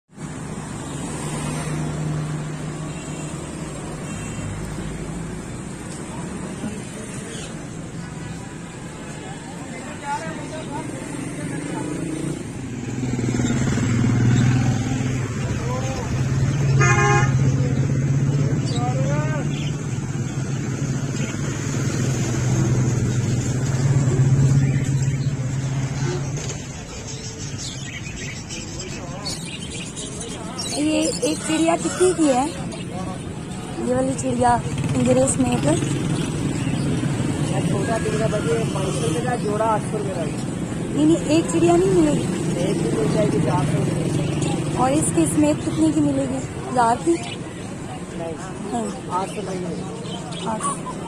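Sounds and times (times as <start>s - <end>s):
road traffic: 0.1s - 51.0s
vehicle engine humming: 0.1s - 51.0s.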